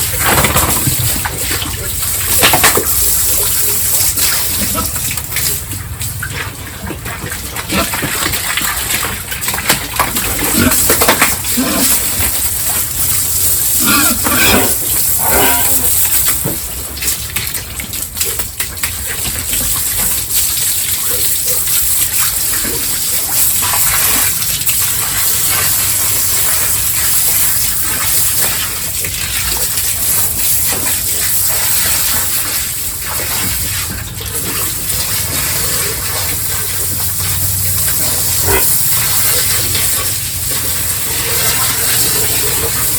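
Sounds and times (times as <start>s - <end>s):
pigs grunting and squealing: 0.0s - 5.7s, 6.3s - 16.4s, 19.0s - 42.9s
water gushing: 0.0s - 42.9s.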